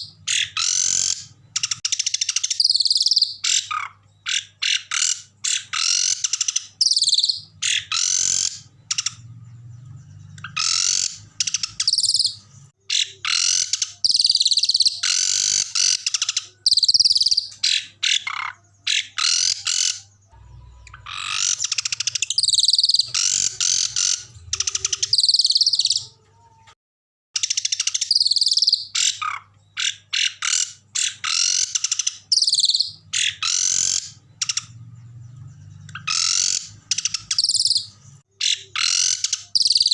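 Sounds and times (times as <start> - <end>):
songbird trilling and chattering: 0.0 - 20.1, 20.8 - 26.2, 27.4 - 39.9.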